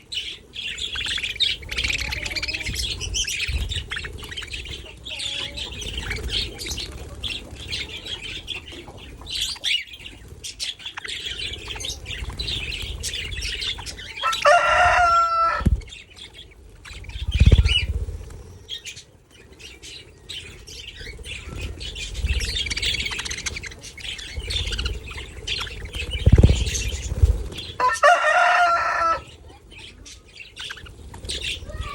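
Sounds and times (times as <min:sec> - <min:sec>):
budgerigars chattering: 0:00.0 - 0:18.0, 0:18.6 - 0:31.9
loud pitched bird calls: 0:00.0 - 0:31.9
wings flapping: 0:00.0 - 0:31.9.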